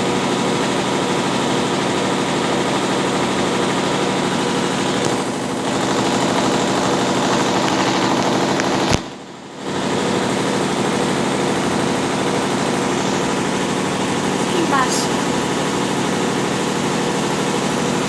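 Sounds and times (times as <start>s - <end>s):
washing machine motor hum: 0.0s - 18.0s
water and clothes churning: 0.0s - 18.0s.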